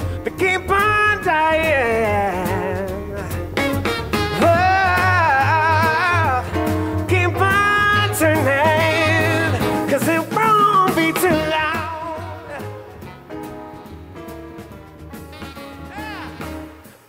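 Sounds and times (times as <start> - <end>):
bending lead melody: 0.0 - 17.0
jazz-funk band music: 0.0 - 17.0.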